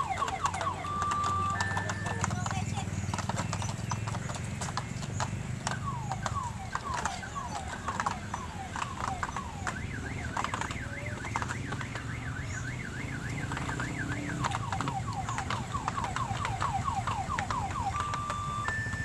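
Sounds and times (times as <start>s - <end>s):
electronic siren: 0.0s - 2.4s, 5.6s - 19.0s.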